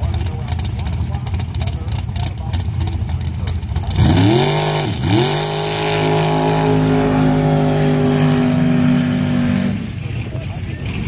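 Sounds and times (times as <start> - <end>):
dragster engine revving: 0.0 - 11.0.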